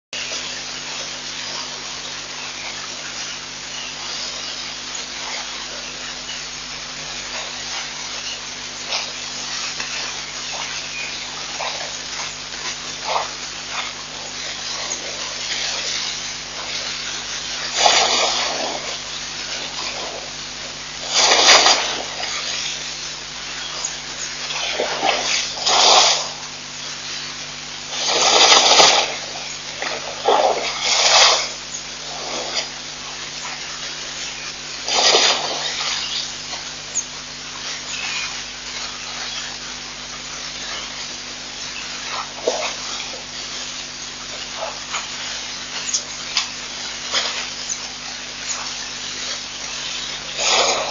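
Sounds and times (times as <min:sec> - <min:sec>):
low electrical hum: 0:00.0 - 0:50.9
short gushing noises: 0:00.2 - 0:50.9
steady hiss: 0:00.2 - 0:50.9.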